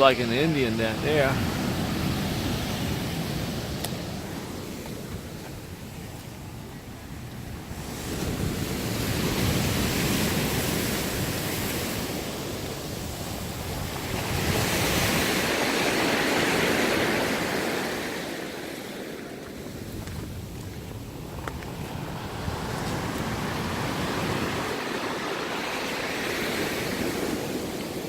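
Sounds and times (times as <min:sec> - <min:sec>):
ocean waves washing in: 0:00.0 - 0:28.0.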